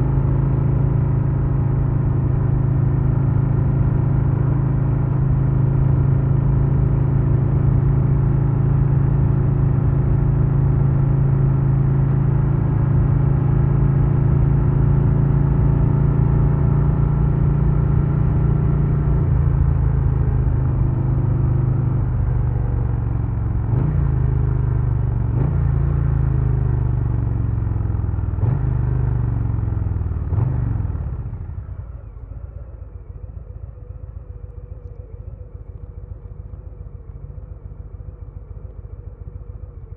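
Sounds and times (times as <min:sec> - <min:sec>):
motorcycle engine revving: 0:00.0 - 0:39.9
motorcycle engine running: 0:00.0 - 0:39.9.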